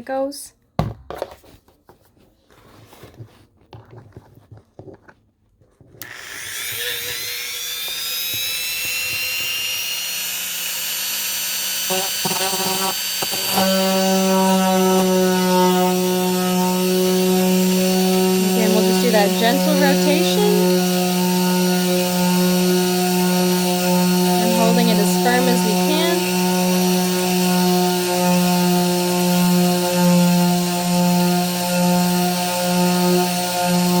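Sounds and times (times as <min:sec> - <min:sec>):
rotary tool whine drilling: 0:06.0 - 0:34.0.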